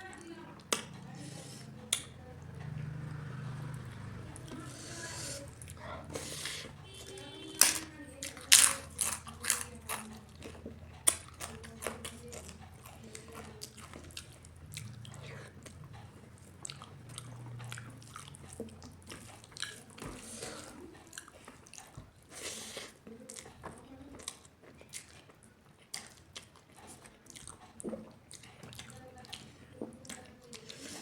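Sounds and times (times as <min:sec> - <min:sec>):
chewing and wet mouth sounds: 0:00.0 - 0:31.0.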